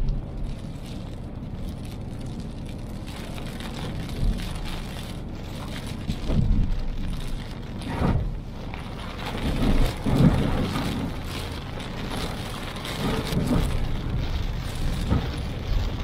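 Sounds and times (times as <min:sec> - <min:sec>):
heavy rain on car: 0:00.0 - 0:16.0.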